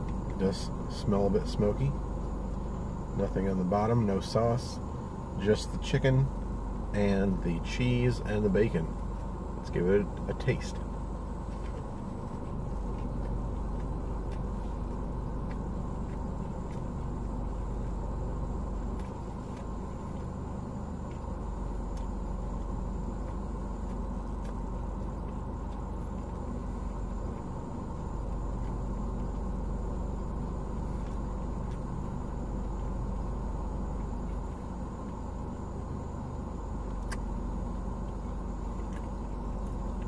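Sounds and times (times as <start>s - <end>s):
car idling from inside cabin: 0.0s - 40.0s.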